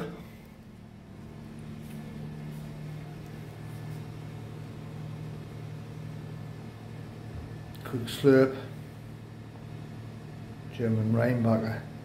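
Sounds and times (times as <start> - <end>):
oven humming: 0.0 - 12.0.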